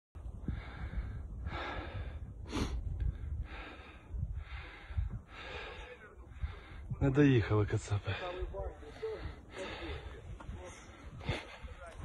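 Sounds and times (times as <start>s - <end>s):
person breathing heavily: 0.3s - 7.0s, 8.0s - 12.0s.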